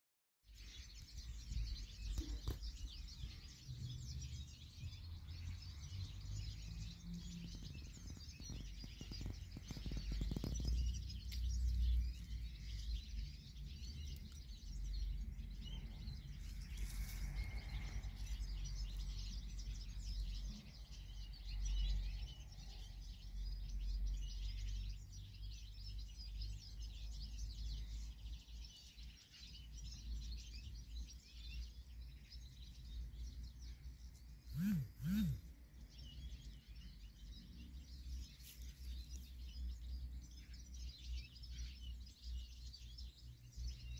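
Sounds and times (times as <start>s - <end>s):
small birds chirping: 0.4s - 43.9s.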